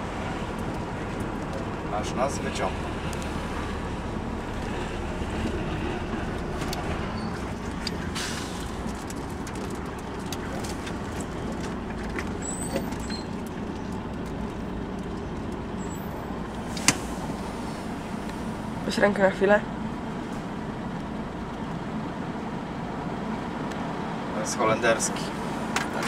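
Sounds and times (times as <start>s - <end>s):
truck diesel engine idling: 0.0s - 26.0s.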